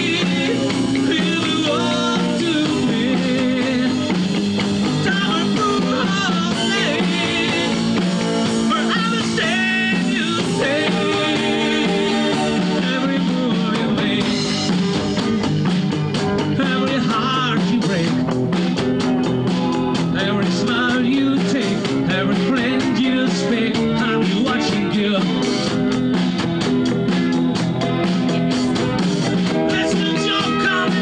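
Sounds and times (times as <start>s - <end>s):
rock band playing live: 0.0s - 31.0s.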